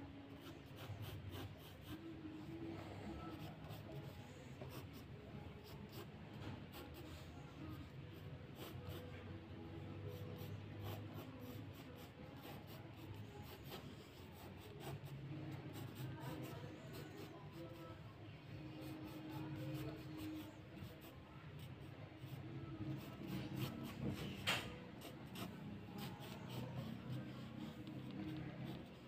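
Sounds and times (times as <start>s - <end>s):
pencil scratching on paper: 0.3s - 29.0s.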